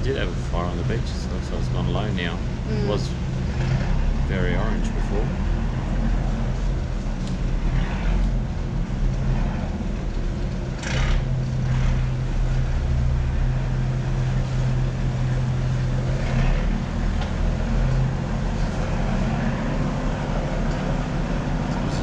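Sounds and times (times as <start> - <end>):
boat engine humming: 0.0 - 22.0.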